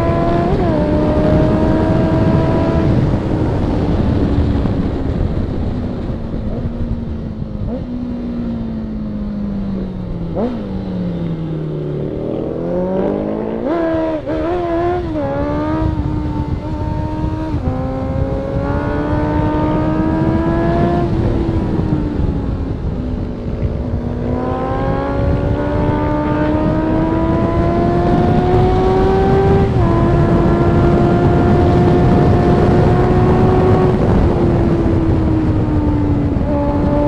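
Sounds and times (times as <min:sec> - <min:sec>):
motorcycle engine revving: 0:00.0 - 0:37.0
wind rush: 0:00.0 - 0:37.0.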